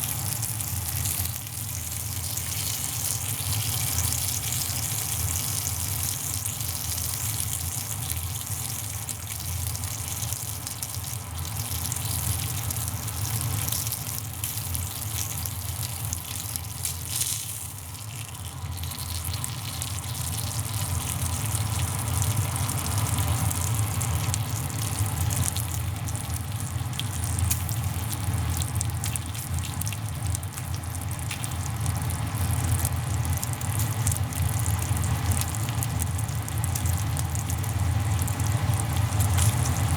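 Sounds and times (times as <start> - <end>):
meat sizzling on grill: 0.0 - 39.9
wood fire crackling: 0.0 - 39.9.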